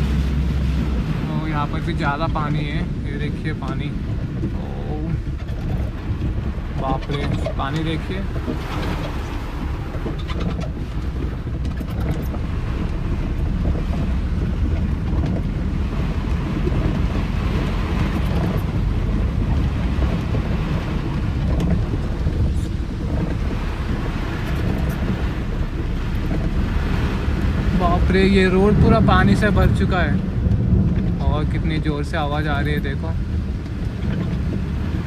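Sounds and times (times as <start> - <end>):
rain hitting car: 0.0 - 35.0
tyres running through floodwater: 0.0 - 35.0.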